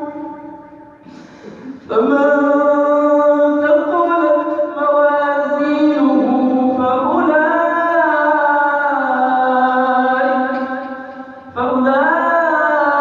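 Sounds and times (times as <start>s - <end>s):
man reciting melodically: 1.8s - 13.0s.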